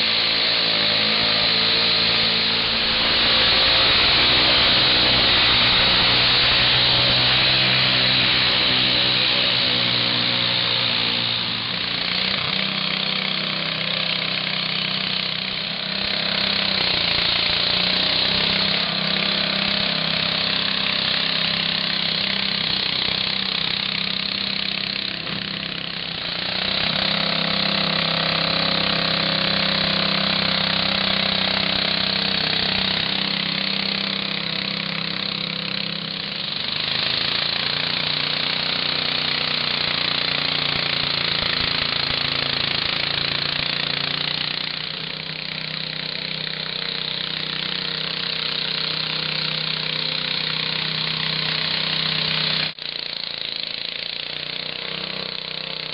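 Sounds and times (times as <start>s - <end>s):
tractor engine revving hard: 0.0s - 55.9s.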